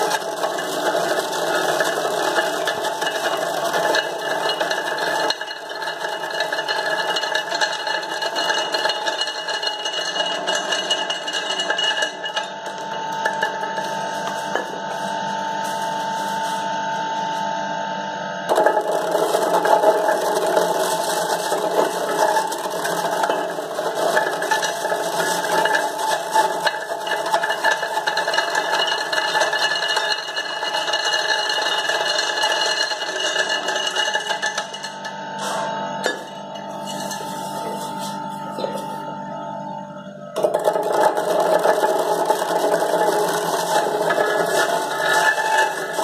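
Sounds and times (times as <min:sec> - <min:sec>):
juice extractor grinding fruit: 0:00.0 - 0:15.2, 0:18.5 - 0:38.8, 0:40.3 - 0:46.0.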